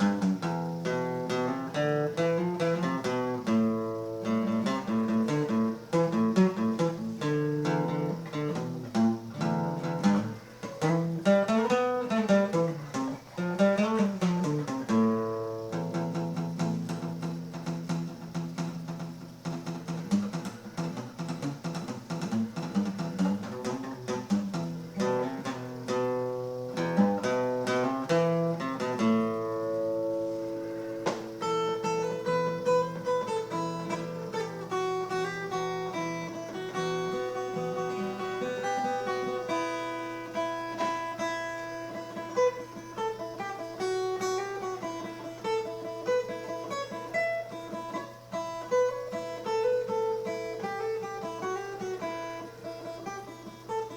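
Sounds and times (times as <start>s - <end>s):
guitar picked notes: 0.0s - 53.9s
guitar strummed chords: 0.0s - 53.9s.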